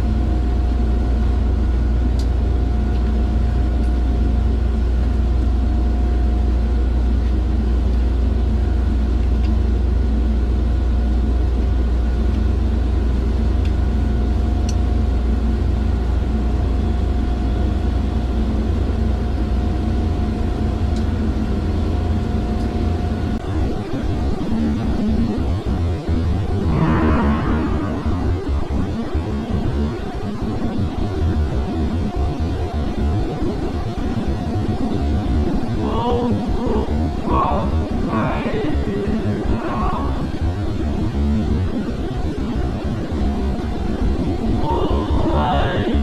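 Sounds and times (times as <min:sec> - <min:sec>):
machinery rumbling and humming: 0:00.0 - 0:46.0.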